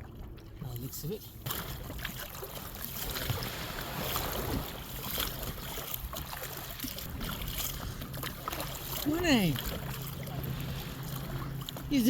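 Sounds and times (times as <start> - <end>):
low motor hum: 0.0 - 12.0
water washing against hull: 0.0 - 12.0.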